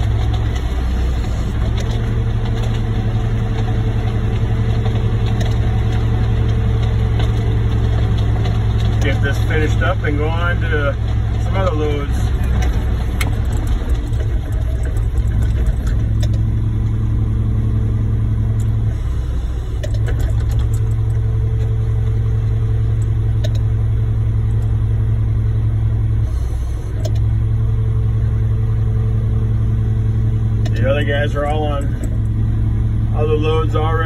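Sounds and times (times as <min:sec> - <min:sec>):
truck diesel engine running: 0:00.0 - 0:34.0.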